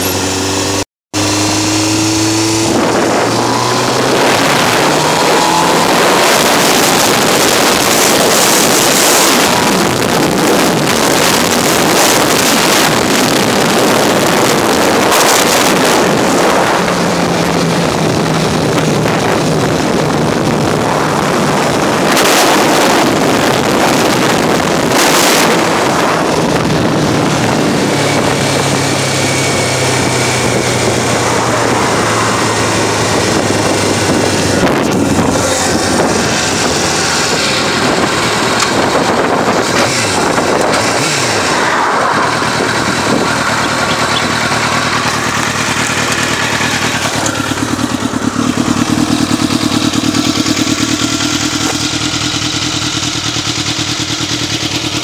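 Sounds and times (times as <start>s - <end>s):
motorcycle engine running: 0.0s - 55.0s
wind rush on microphone: 0.7s - 53.3s.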